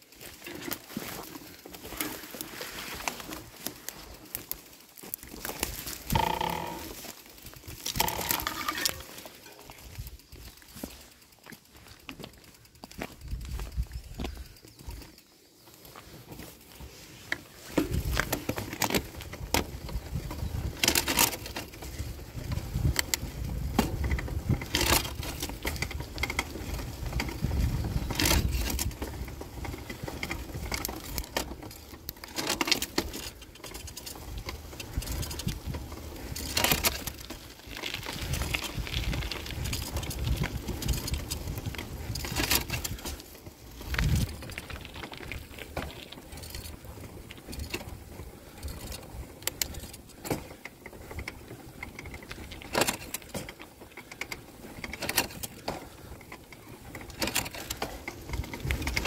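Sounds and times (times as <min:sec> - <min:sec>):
bicycle tyre rumble: 0:00.0 - 0:59.0
bike clicks and rattles: 0:00.0 - 0:59.0.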